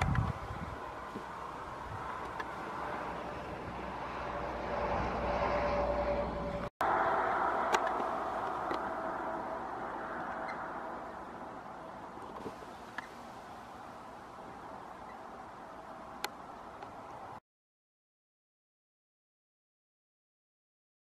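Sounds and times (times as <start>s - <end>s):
passing motor vehicle engine hum: 0.0s - 17.4s.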